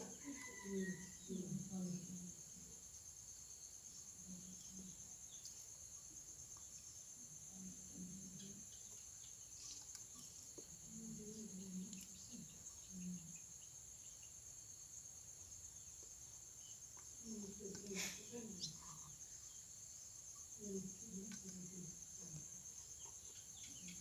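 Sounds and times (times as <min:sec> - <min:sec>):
high-pitched insect trilling: 0:00.0 - 0:24.0.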